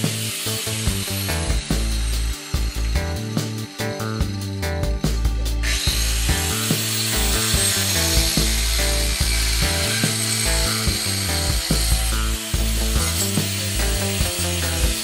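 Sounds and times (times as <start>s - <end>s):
angle grinder grinding: 0.0s - 15.0s
background music: 0.0s - 15.0s.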